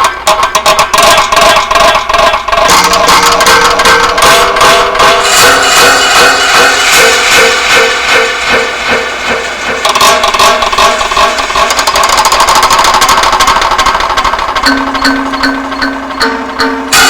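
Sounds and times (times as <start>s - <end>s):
clattering and scraping clicks: 0.0s - 17.0s.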